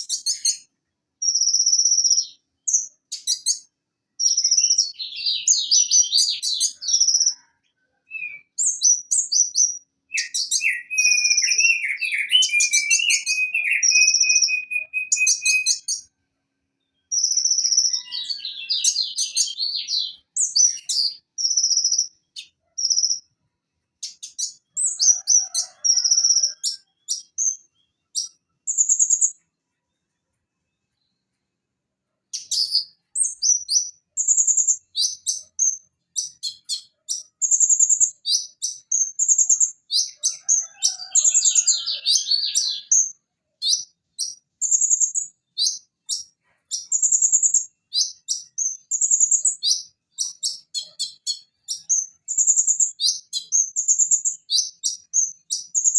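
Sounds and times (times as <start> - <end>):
sunbird singing: 0.0 - 16.1, 16.8 - 23.3, 24.0 - 29.5, 32.3 - 55.9.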